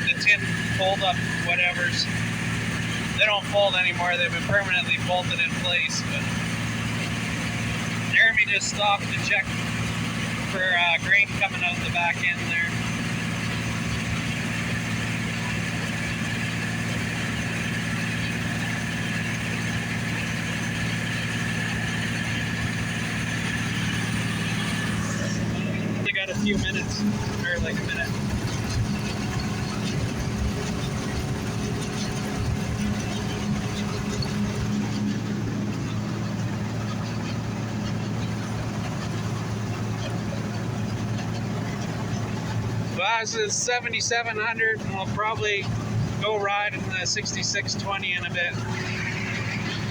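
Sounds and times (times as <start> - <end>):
constant mechanical rush: 0.0 - 49.9
diesel engine hum: 0.0 - 49.9
high machinery whine: 0.0 - 49.9.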